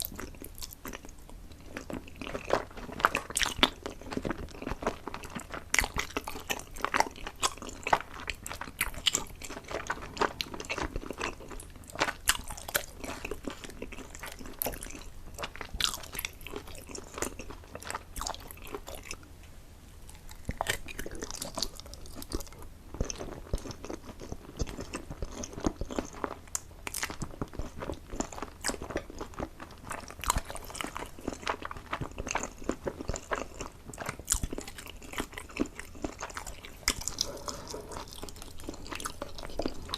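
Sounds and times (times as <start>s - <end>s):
person chewing food: 0.0s - 19.3s, 20.0s - 39.9s.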